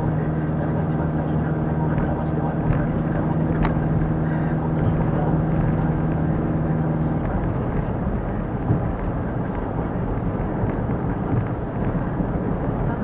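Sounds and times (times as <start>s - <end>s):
engine hum: 0.0s - 13.0s
road rumble inside car: 0.0s - 13.0s.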